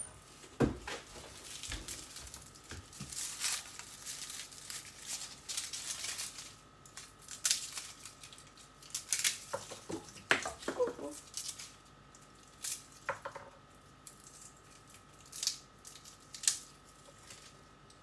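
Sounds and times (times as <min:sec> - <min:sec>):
garlic skins crackling: 0:00.2 - 0:18.0.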